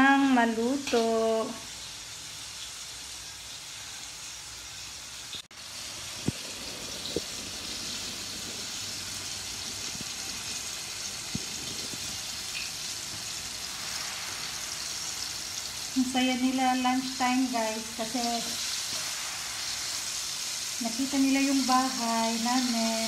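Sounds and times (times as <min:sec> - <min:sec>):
noodles sizzling in a wok: 0:00.0 - 0:23.0.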